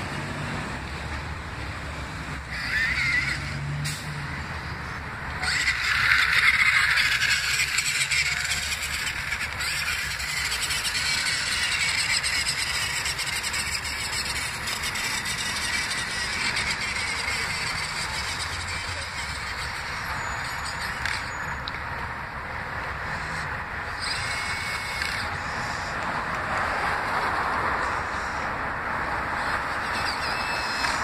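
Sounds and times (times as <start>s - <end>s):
road traffic: 0.0s - 31.0s
toy truck motor whining: 2.4s - 21.8s, 23.0s - 27.2s, 27.8s - 28.5s, 29.3s - 31.0s.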